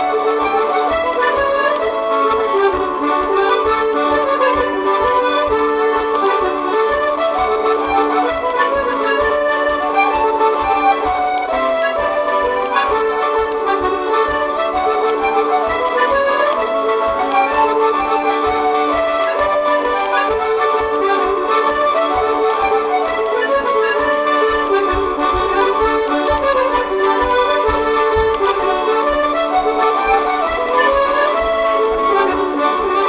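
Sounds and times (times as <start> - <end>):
button accordion playing a tune: 0.0 - 33.0.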